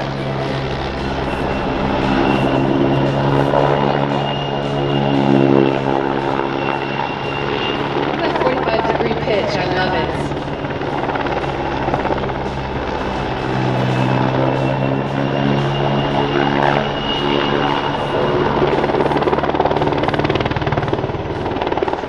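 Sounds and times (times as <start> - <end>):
helicopter rotor beating: 0.0 - 22.0
high turbine whine: 0.0 - 22.0.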